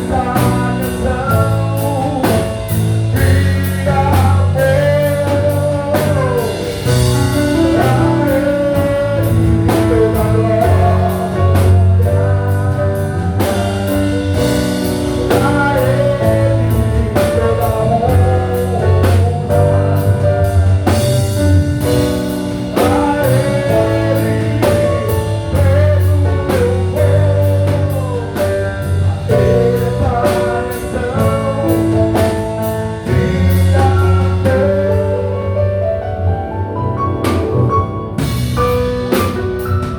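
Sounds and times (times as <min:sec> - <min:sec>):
lead vocal singing: 0:00.0 - 0:35.8
drum kit beat: 0:00.0 - 0:39.9
live band playing: 0:00.0 - 0:39.9.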